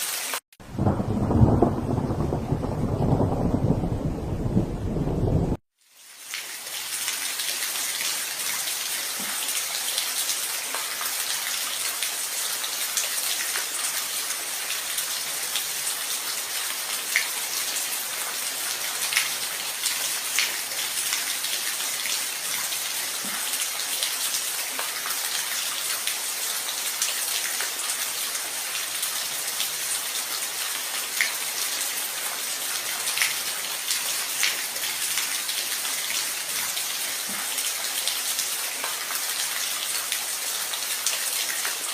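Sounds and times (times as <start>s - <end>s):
steady rain hiss: 0.0s - 41.9s.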